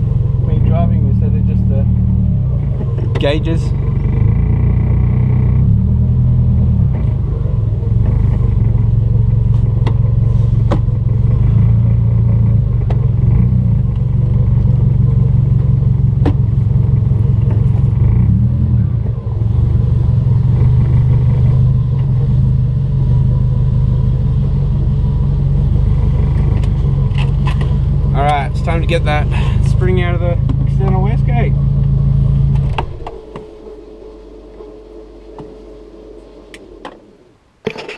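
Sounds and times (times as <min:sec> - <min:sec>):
car engine rumbling at low revs: 0:00.0 - 0:37.6.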